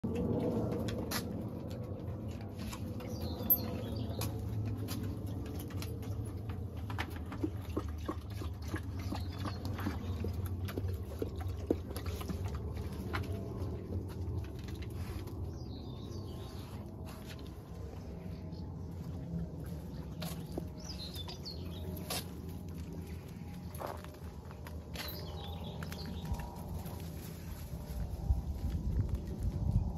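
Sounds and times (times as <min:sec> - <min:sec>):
dogs eating clicks and smacks: 0:00.0 - 0:27.5.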